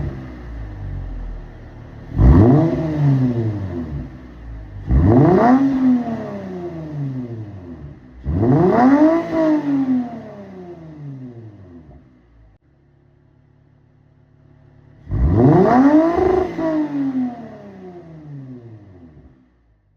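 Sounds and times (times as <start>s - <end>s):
car engine revving: 0.0s - 12.5s, 14.2s - 19.5s.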